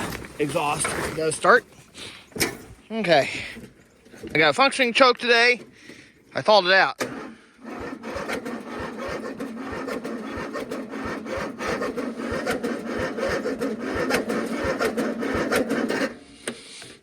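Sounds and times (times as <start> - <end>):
mower engine cranking: 0.0 - 17.0.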